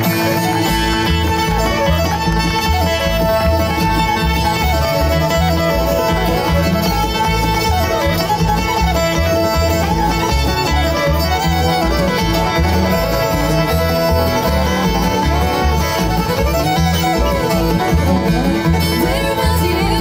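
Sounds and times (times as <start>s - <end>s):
bluegrass band playing: 0.0s - 20.0s.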